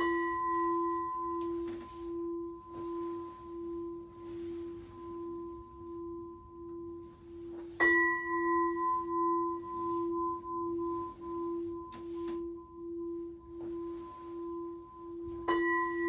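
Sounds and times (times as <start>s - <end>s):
bowl bell ringing: 0.0s - 16.0s.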